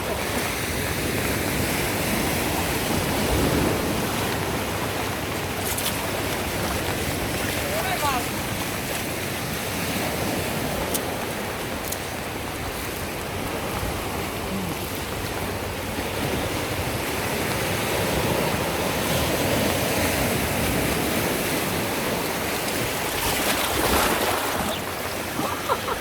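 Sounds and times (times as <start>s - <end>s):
river water rushing: 0.0s - 26.0s
water splashes: 0.0s - 26.0s.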